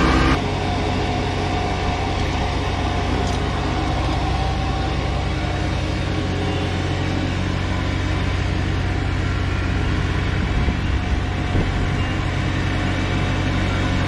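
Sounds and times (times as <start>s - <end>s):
tractor engine mowing: 0.0s - 14.0s.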